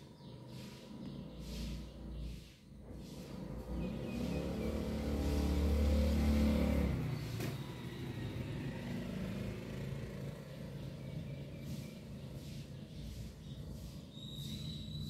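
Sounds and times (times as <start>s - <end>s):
low traffic rumble: 0.0s - 15.0s
vehicle engine running: 0.0s - 15.0s.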